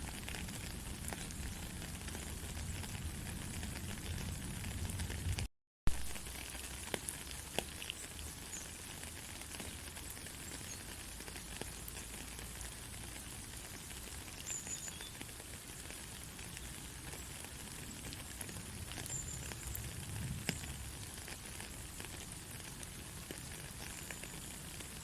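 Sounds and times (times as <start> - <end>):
gentle rain hiss: 0.0 - 25.0
light raindrop ticks: 0.0 - 25.0.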